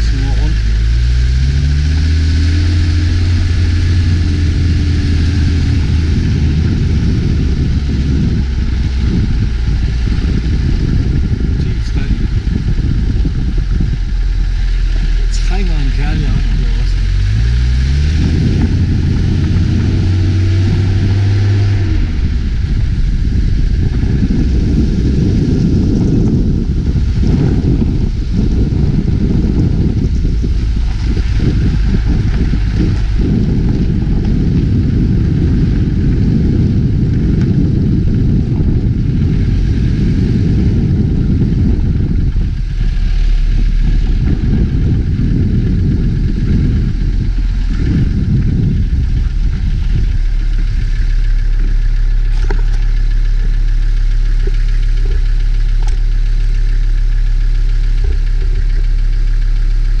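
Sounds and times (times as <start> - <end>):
vehicle engine rumbling: 0.0 - 60.0.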